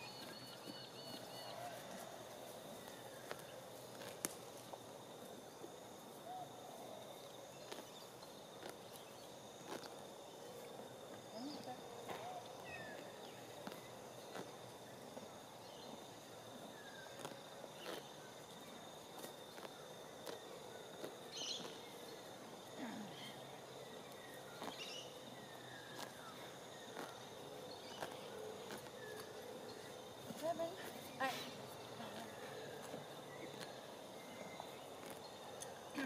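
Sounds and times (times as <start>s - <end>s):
insect drone: 0.0s - 36.0s.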